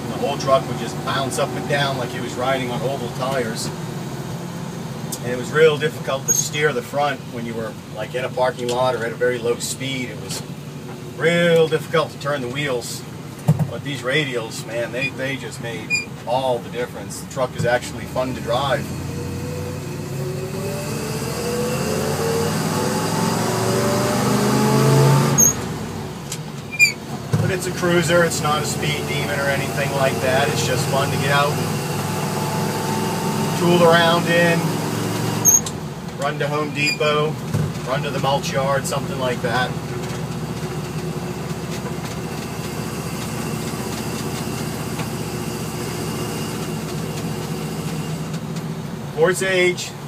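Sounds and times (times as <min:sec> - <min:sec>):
truck engine accelerating: 0:00.0 - 0:12.2, 0:12.8 - 0:49.2.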